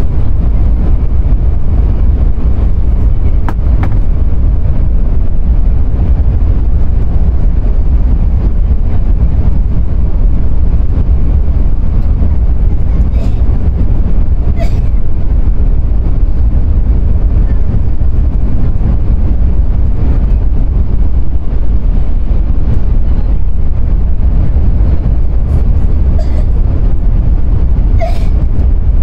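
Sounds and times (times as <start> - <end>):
train running rumble inside car: 0.0 - 29.0.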